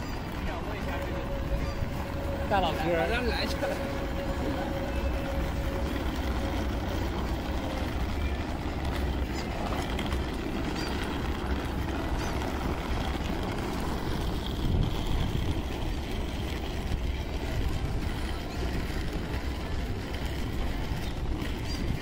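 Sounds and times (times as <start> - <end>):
low rumble of traffic: 0.0 - 22.0
pedestrians walking by: 0.0 - 22.0.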